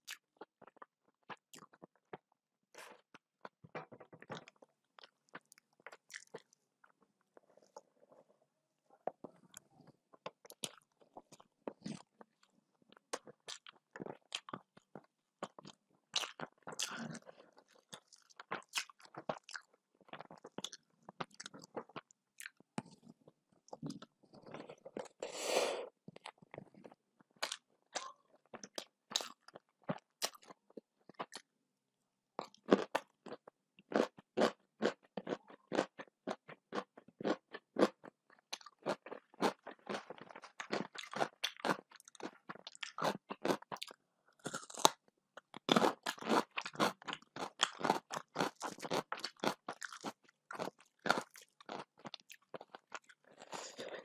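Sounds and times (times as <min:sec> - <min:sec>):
chewing and crunching food: 0:00.0 - 0:25.2, 0:25.9 - 0:31.6, 0:32.4 - 0:54.0.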